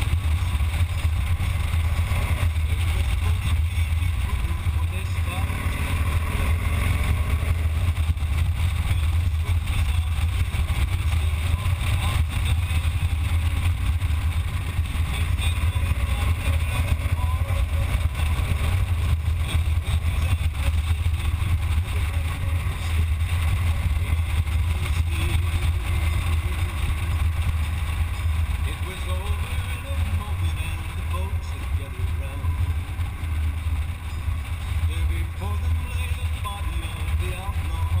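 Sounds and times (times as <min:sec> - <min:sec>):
motorcycle engine rumbling: 0:00.0 - 0:38.0
road and wind noise: 0:00.0 - 0:38.0.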